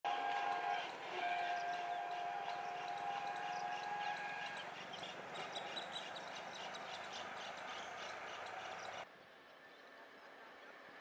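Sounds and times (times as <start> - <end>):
steady distant tone: 0.1 - 9.0.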